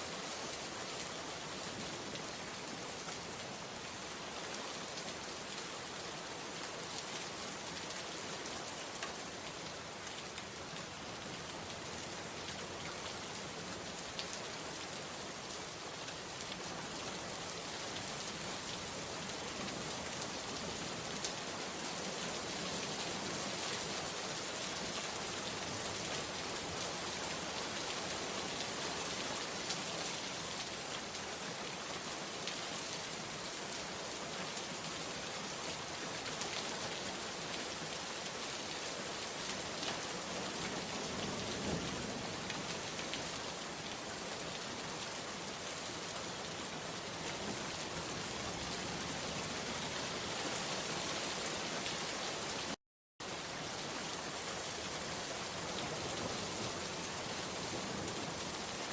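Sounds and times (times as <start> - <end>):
steady rain hissing: 0.0 - 58.9.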